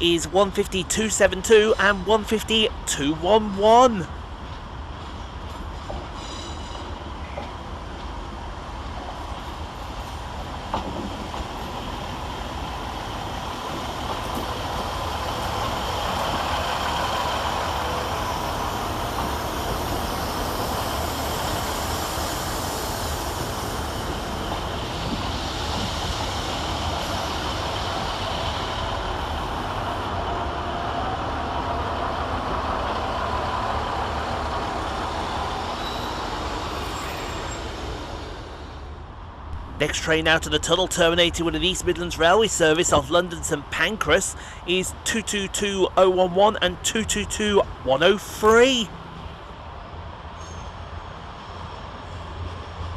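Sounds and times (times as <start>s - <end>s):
diesel train arriving: 0.0s - 52.9s.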